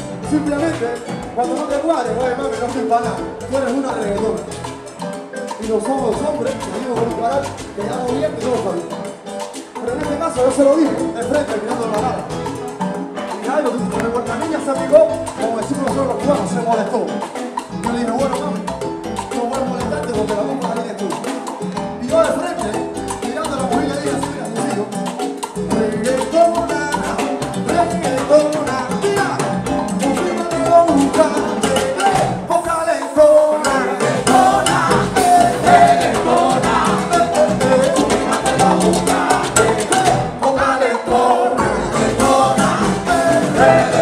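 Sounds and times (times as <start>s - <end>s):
keyboard and melody lines: 0.0s - 32.5s, 33.1s - 44.0s
latin percussion groove: 0.0s - 44.0s.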